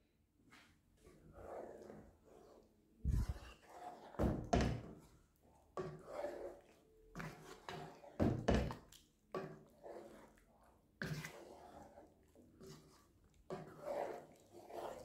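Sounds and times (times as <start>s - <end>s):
wet stirring of gravy: 0.4s - 15.0s.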